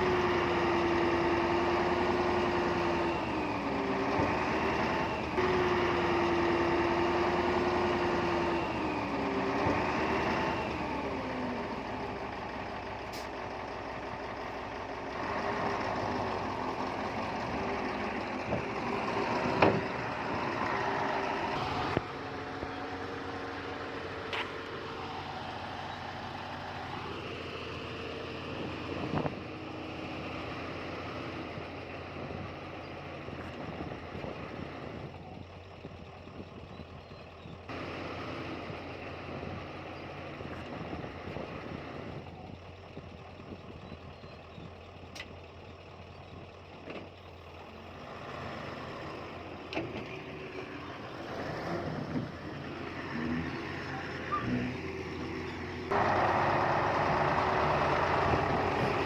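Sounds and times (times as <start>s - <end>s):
diesel machinery engines running: 0.0s - 59.0s.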